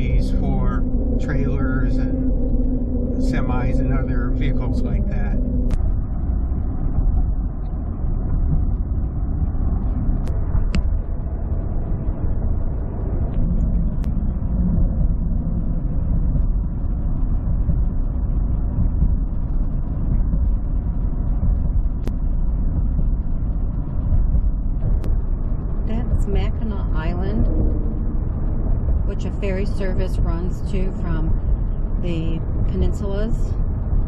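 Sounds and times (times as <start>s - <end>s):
vehicle road and engine rumble: 0.0s - 34.0s.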